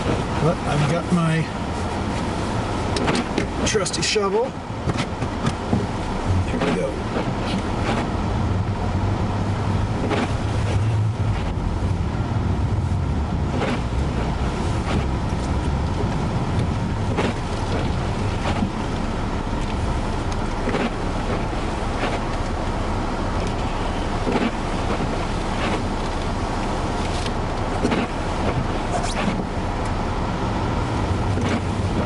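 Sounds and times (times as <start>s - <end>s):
vehicle engine rumble: 0.0s - 32.0s
wind noise: 4.6s - 32.0s.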